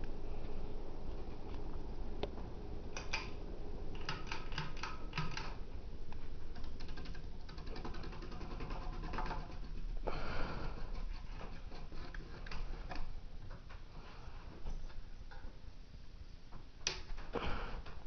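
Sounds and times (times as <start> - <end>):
ceiling fan running: 0.0 - 18.0.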